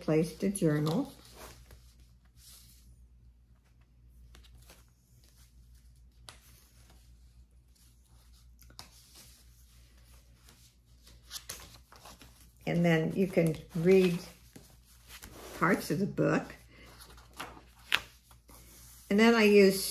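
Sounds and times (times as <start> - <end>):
paper and card rustling: 0.0 - 2.9, 3.5 - 19.9.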